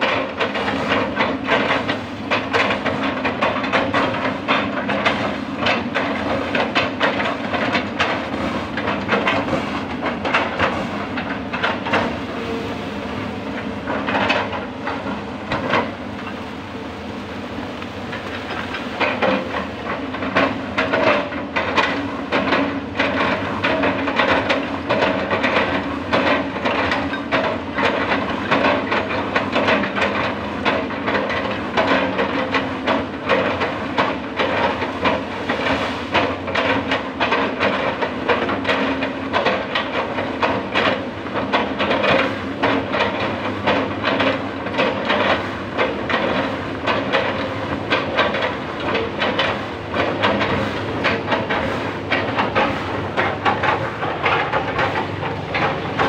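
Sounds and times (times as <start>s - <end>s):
excavator engine under load: 0.0s - 56.0s.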